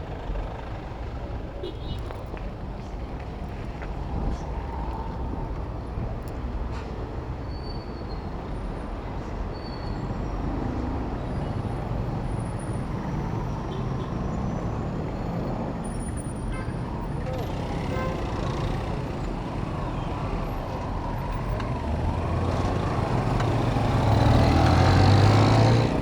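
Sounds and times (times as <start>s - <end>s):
traffic engines and tyres rumbling: 0.0s - 26.0s.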